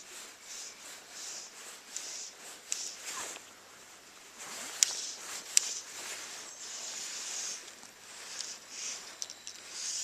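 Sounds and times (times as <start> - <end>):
crickets hissing: 0.4 - 3.4, 4.7 - 10.0.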